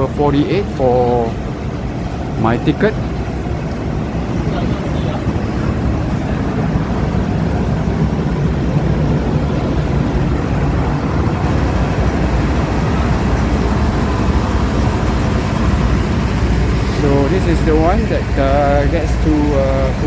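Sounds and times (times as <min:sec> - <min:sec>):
diesel railcar engines rumbling: 0:00.0 - 0:20.0.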